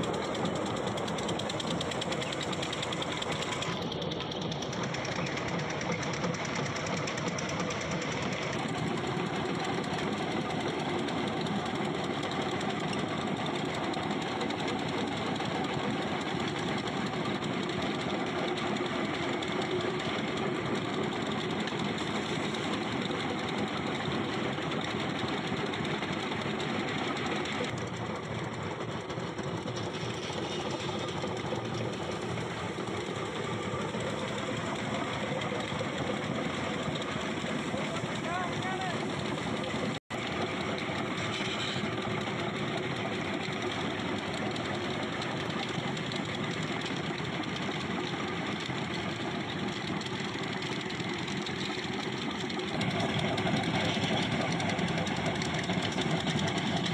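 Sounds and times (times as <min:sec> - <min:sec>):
pipe spinning machine running: 0:00.0 - 0:56.9.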